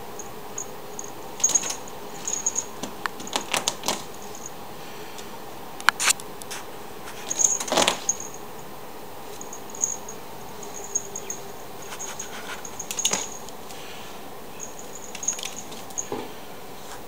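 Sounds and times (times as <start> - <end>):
claws scrabbling on tile: 0.6 - 4.6, 6.0 - 8.5, 9.2 - 14.0, 14.6 - 17.0.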